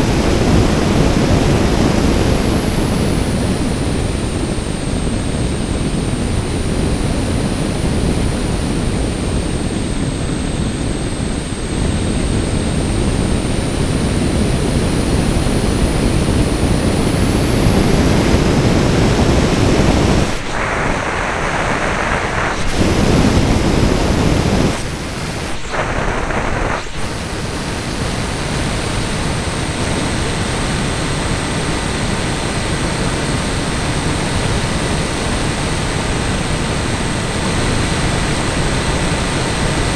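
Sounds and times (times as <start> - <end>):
motor and propeller drone: 0.0 - 39.9
thin high whine: 0.0 - 39.9
wind rushing over microphone: 0.0 - 39.9.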